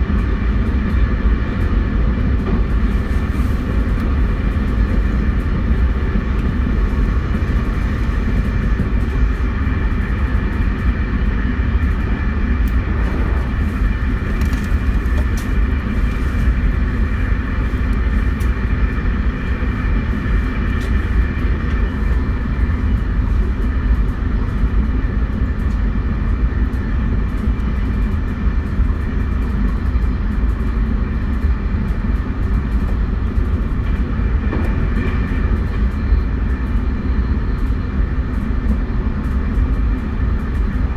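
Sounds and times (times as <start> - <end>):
electric train running: 0.0 - 40.9.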